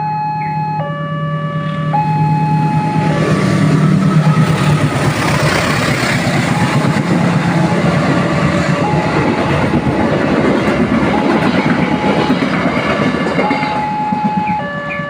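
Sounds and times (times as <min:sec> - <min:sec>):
two-tone crossing siren: 0:00.0 - 0:15.0
train rumble: 0:01.7 - 0:15.0.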